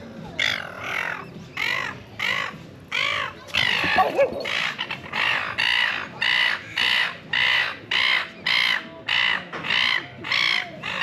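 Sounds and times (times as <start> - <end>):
bird giving harsh calls: 0.4 - 11.0.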